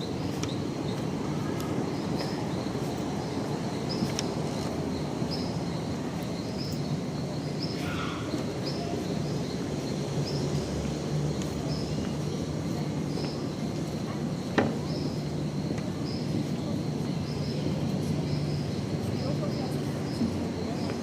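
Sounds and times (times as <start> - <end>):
background hubbub: 0.0 - 21.0.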